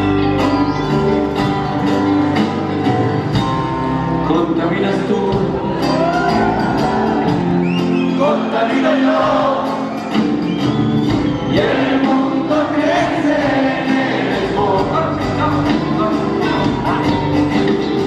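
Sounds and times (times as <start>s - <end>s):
live folk-rock band playing: 0.0s - 18.0s.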